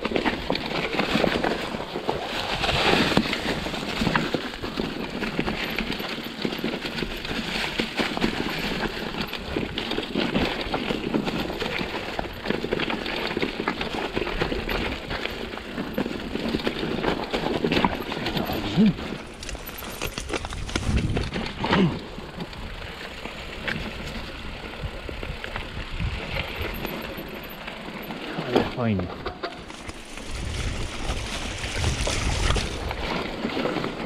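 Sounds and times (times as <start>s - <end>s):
bike rattling and knocking: 0.0s - 34.0s
tyres crunching over stones: 0.0s - 34.0s.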